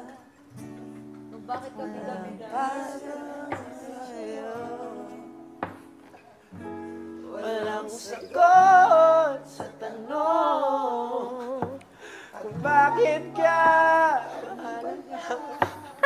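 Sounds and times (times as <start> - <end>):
person singing: 0.0 - 0.8, 1.7 - 5.9, 7.2 - 16.0
acoustic guitar strumming: 0.0 - 16.0.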